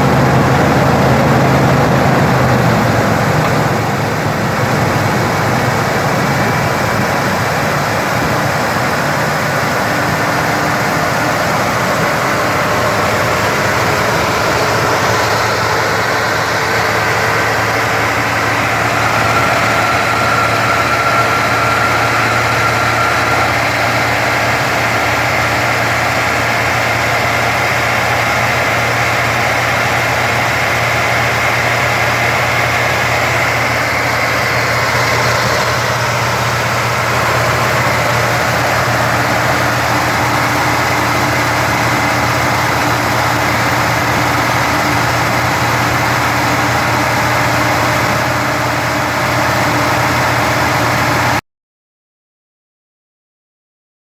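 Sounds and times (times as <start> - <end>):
car engine idling: 0.0 - 51.4.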